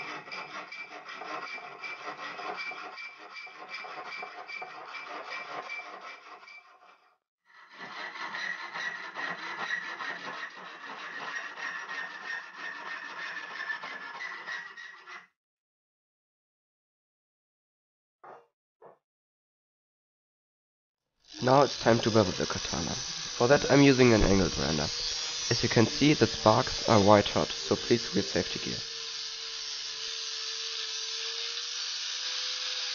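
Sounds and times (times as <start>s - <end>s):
hacksaw cutting steel: 0.0s - 15.3s, 21.3s - 32.9s.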